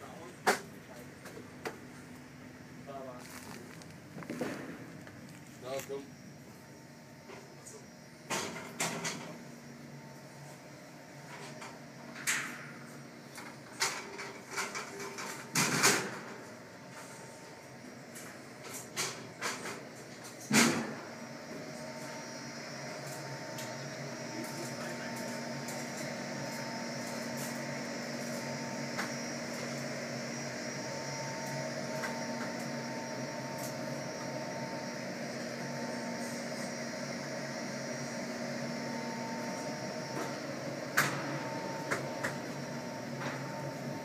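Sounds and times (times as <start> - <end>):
machinery whining tones: 1.7 - 44.0.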